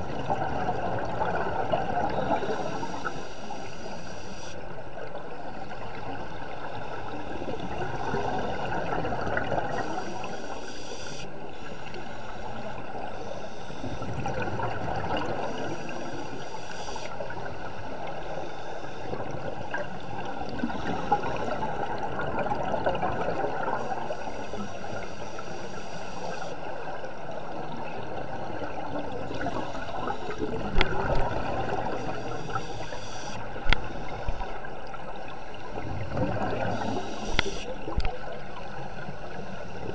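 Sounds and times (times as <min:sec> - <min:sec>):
underwater bubbling of exhaled air: 0:00.0 - 0:39.9.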